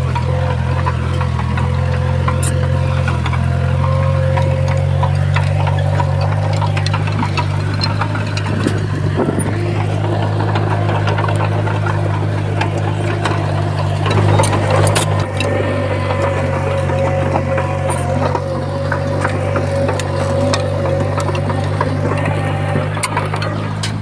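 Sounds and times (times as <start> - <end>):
bulldozer diesel engine running: 0.0 - 24.0
metallic clicks and clanks: 0.0 - 24.0
steady whine: 0.0 - 24.0.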